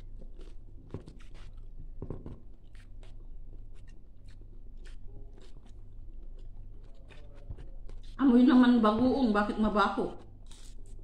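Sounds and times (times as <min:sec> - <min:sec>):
chewing: 0:00.0 - 0:08.2, 0:10.2 - 0:11.0
steady low hum: 0:00.0 - 0:11.0.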